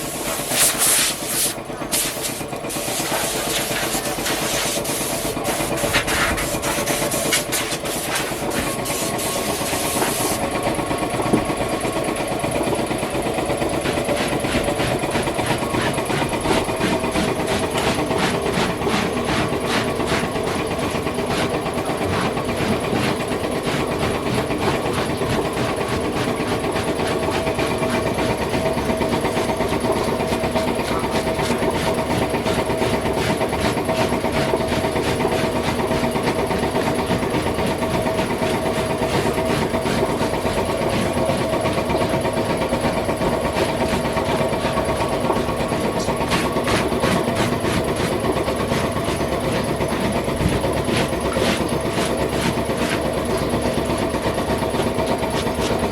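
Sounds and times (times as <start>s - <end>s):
machine clattering and humming: 0.0s - 55.9s.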